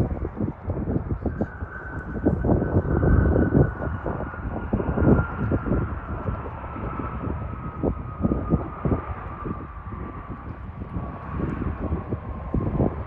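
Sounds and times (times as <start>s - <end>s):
distant jet engine whine: 0.0s - 13.0s
low rumble: 0.0s - 13.0s.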